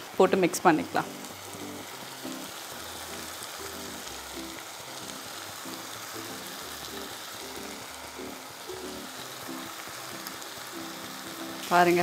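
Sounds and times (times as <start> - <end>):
rice sizzling in a pan: 0.0 - 12.0
background music: 0.2 - 12.0.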